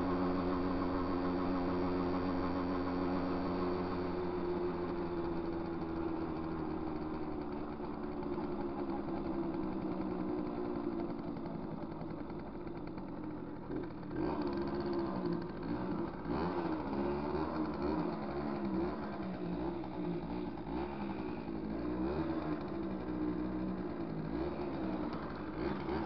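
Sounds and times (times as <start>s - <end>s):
small motorcycle engine running: 0.0s - 26.0s.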